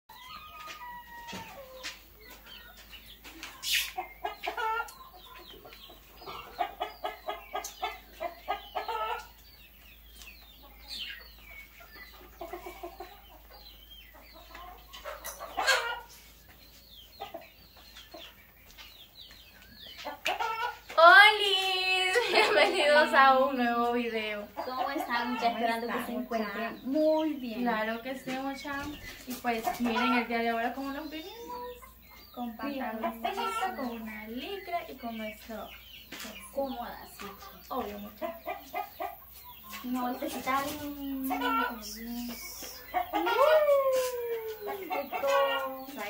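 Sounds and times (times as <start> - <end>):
chickens clucking: 0.1 - 46.0.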